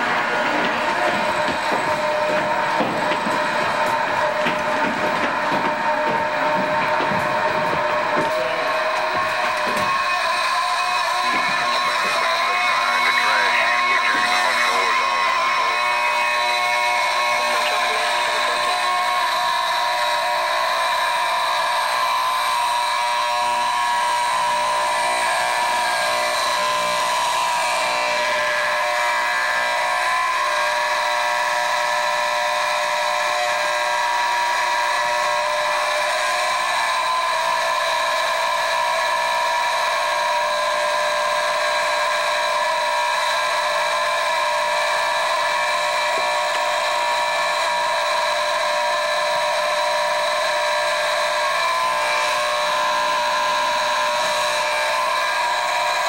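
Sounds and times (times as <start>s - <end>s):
fire alarm steady whining tone: 0.0s - 56.0s.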